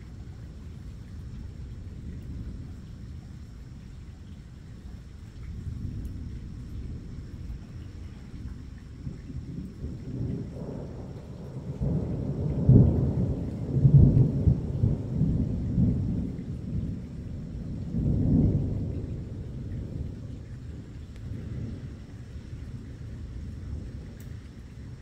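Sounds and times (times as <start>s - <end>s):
rolling thunder: 0.0s - 25.0s.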